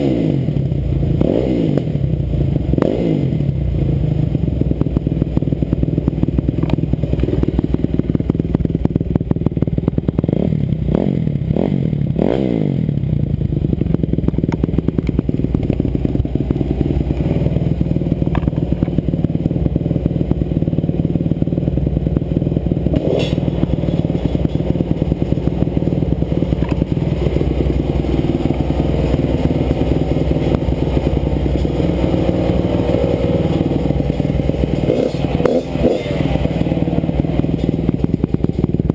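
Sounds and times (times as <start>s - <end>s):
dirt bike engine idling and revving: 0.0s - 38.9s.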